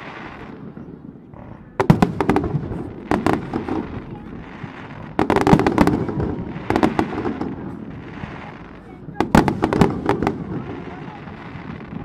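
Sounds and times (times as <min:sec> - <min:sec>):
fireworks bangs: 0:00.0 - 0:12.0
rolling echo: 0:00.0 - 0:12.0.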